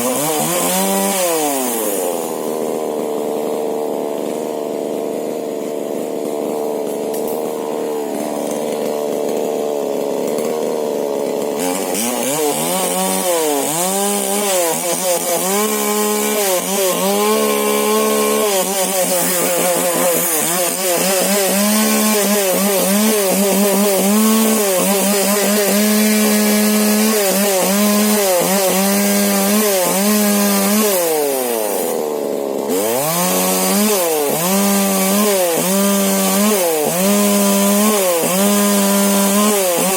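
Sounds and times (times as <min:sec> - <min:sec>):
chainsaw sawing into tree trunk: 0:00.0 - 0:39.9.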